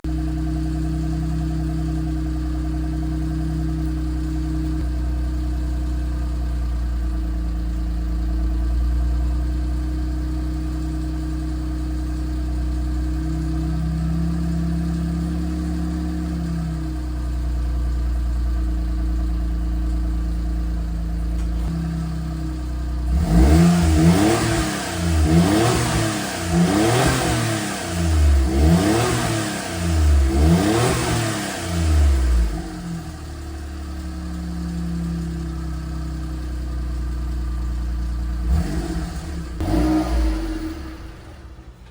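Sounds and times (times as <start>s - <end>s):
car engine exhaust idling and revving: 0.0s - 41.9s.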